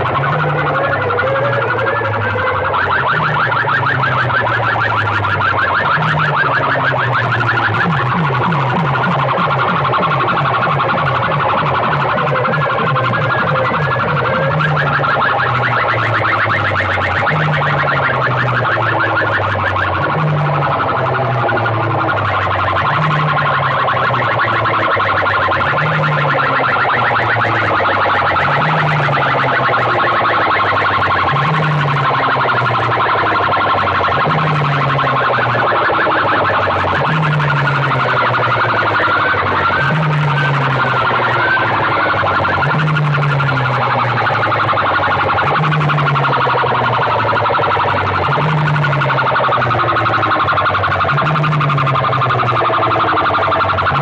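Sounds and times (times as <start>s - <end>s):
loud electronic music over loudspeakers: 0.0s - 54.0s.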